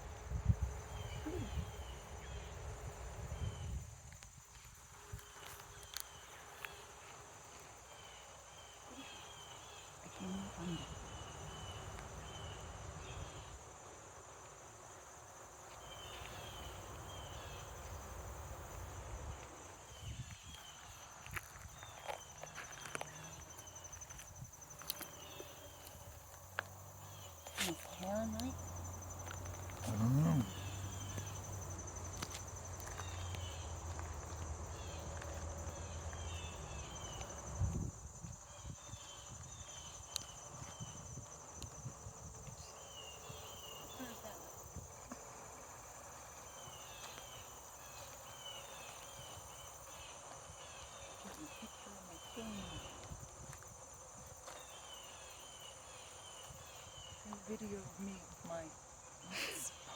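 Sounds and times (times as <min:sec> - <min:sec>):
insects trilling and chirping: 0:00.0 - 0:59.9.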